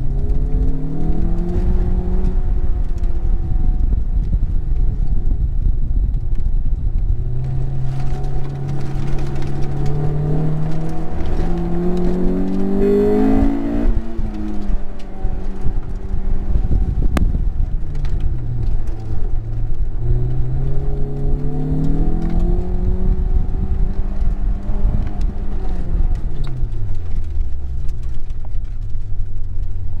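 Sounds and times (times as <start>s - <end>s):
car engine revving: 0.0s - 5.0s, 7.0s - 29.9s
low rumble: 0.0s - 30.0s.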